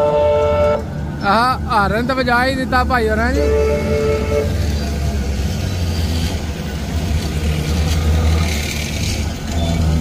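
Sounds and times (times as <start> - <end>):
tram passing rumble: 0.0 - 10.0.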